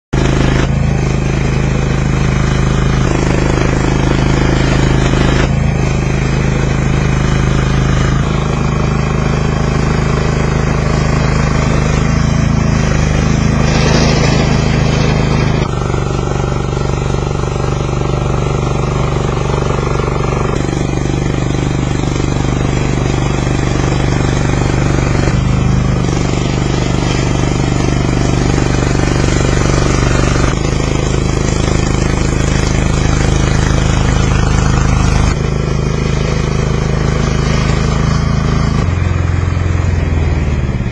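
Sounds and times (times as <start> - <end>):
model motor running: 0.2 - 40.4.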